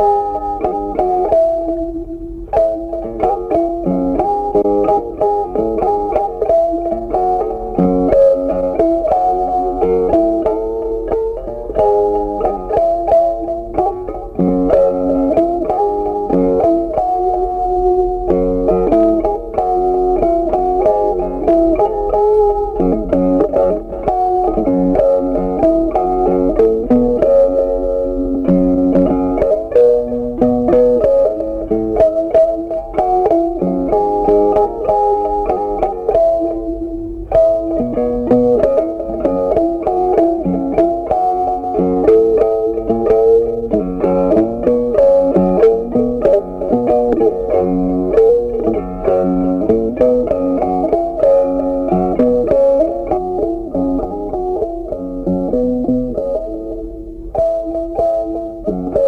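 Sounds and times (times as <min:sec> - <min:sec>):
plucked guitar melody: 0:00.0 - 0:59.0.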